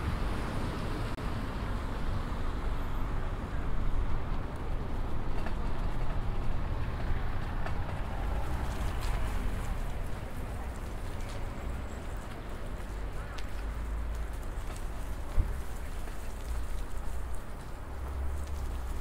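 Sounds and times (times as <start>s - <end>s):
traffic rumble: 0.0s - 19.0s
wind: 0.0s - 19.0s.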